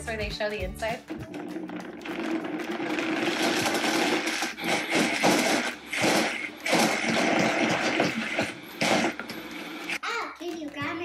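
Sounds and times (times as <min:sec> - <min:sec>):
blender grinding frozen fruit: 0:01.1 - 0:10.0.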